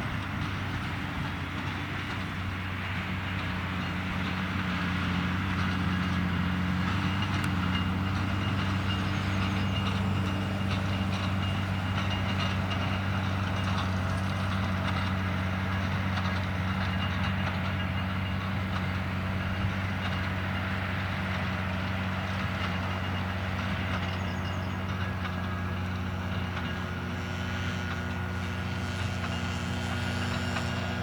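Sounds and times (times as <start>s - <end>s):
square baler running: 0.0s - 31.0s
tractor diesel engine running: 0.0s - 31.0s.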